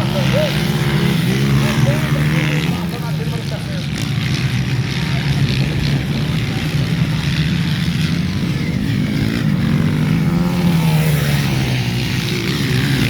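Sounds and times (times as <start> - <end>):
dirt bike engines droning: 0.0 - 13.0.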